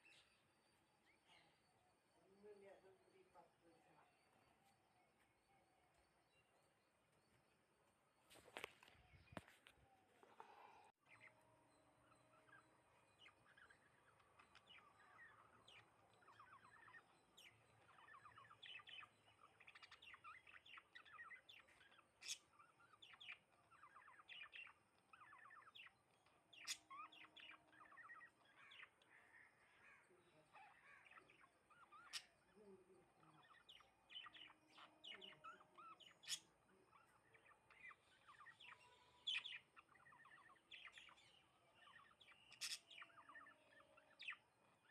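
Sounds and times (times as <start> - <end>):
sparrows chirping: 0.0 - 44.9.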